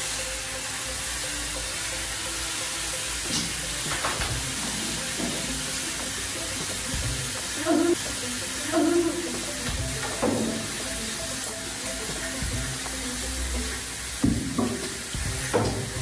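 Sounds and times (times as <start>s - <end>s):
meat sizzling on a griddle: 0.0s - 16.0s.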